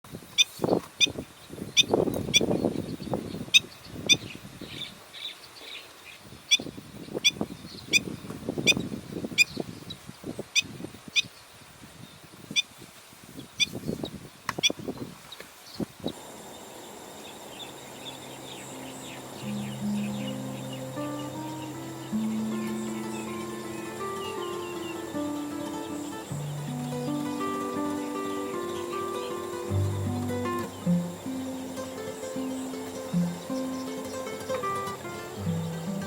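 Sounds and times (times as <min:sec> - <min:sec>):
steady hiss: 0:00.1 - 0:36.0.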